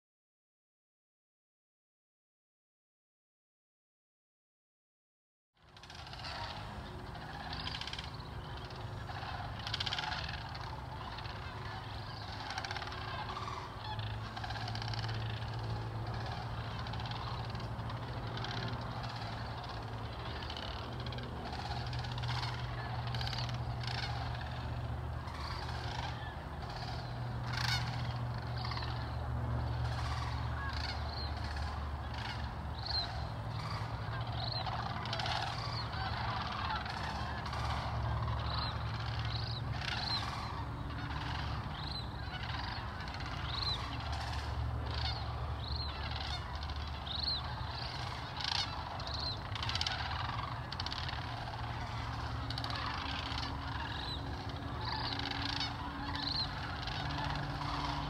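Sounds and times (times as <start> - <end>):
cranes calling: 5.6 - 58.0
low steady rumble: 5.6 - 58.0.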